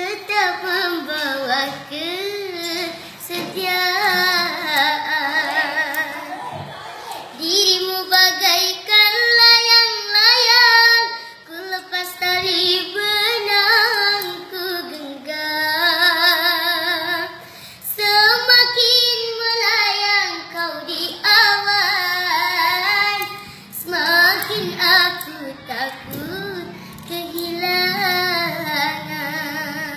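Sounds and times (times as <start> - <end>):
child singing ballad: 0.0 - 29.9.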